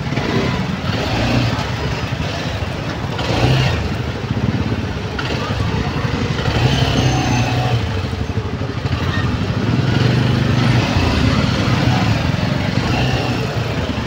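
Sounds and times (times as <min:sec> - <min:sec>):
motorcycle and scooter engines: 0:00.0 - 0:14.0.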